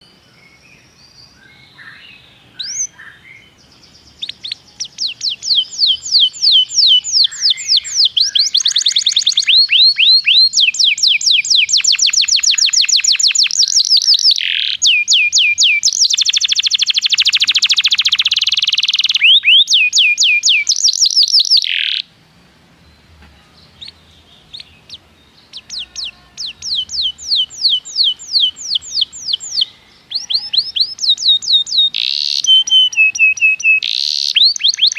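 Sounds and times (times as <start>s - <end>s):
canary singing: 0.0s - 22.1s, 22.8s - 34.9s.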